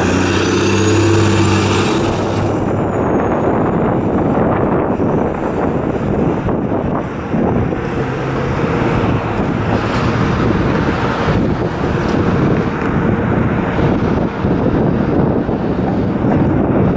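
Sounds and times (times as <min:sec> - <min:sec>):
fire engine pulling away: 0:00.0 - 0:16.9
street traffic: 0:00.0 - 0:16.9
wind buffeting microphone: 0:00.0 - 0:16.9.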